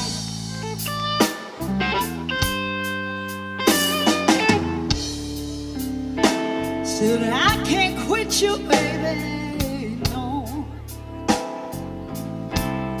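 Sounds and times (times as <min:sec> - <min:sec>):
bass guitar: 0:00.0 - 0:13.0
drum kit: 0:00.0 - 0:13.0
electric guitar bending notes: 0:00.0 - 0:13.0.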